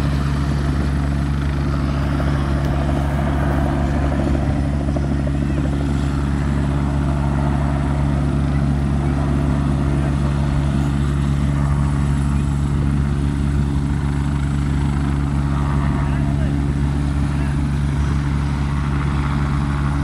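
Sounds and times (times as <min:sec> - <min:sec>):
helicopter engine and rotor: 0:00.0 - 0:20.0.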